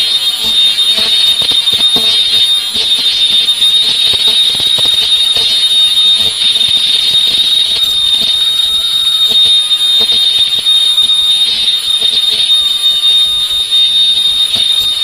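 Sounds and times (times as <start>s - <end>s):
sewing machine high-pitched whine: 0.0s - 15.0s.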